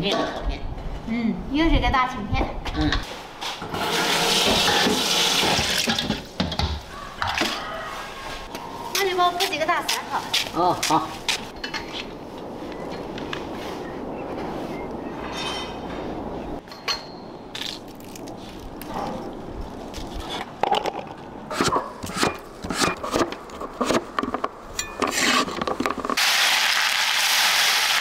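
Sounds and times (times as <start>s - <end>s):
steady background noise: 0.0s - 26.2s.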